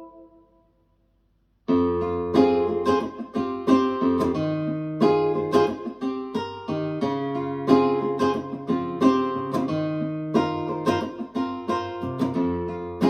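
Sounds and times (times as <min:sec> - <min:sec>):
plucked guitar notes: 0:00.0 - 0:00.4, 0:01.7 - 0:13.0.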